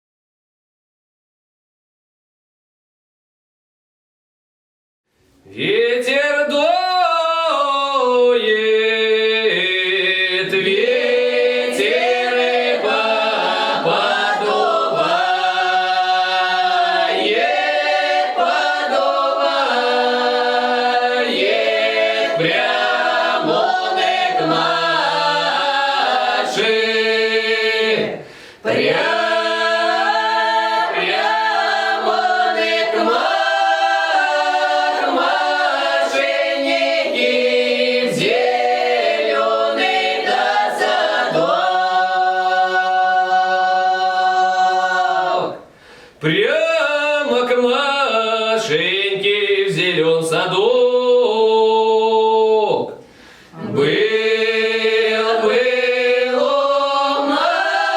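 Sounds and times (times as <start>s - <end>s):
choir singing a cappella: 6.8s - 57.9s.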